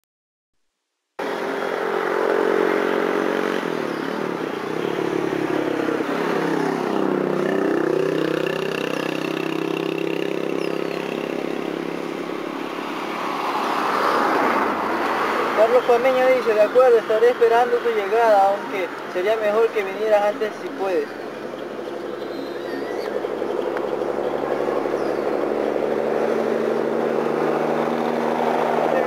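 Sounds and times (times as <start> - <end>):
motorcycles passing: 1.2 - 29.0
vehicle engines passing by: 1.2 - 29.0.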